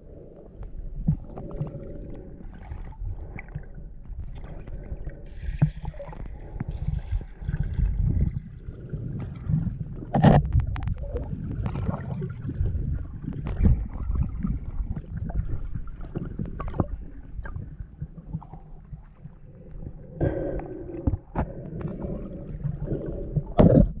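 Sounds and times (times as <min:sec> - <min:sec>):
underwater water rumble: 0:00.0 - 0:24.0.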